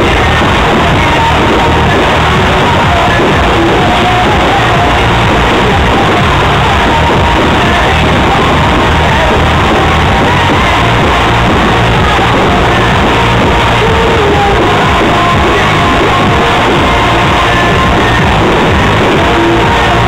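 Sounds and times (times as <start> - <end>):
loud music: 0.0 - 20.0
person singing or shouting: 0.0 - 20.0.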